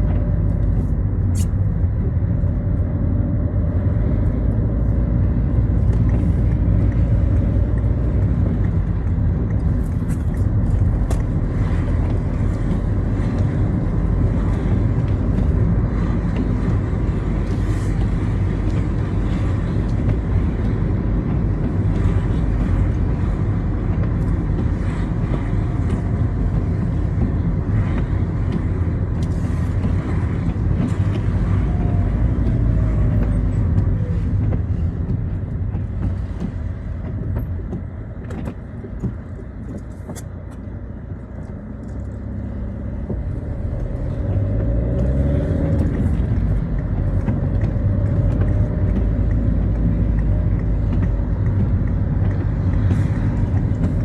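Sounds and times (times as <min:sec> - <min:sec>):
car engine and road rumble: 0:00.0 - 0:54.0
tyre noise on wet road: 0:00.0 - 0:54.0.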